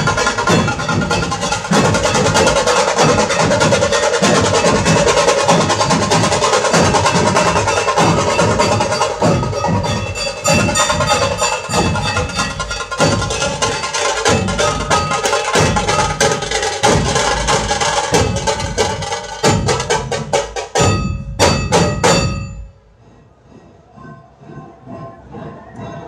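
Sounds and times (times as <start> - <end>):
dhol and tasha drums beating: 0.0 - 22.7.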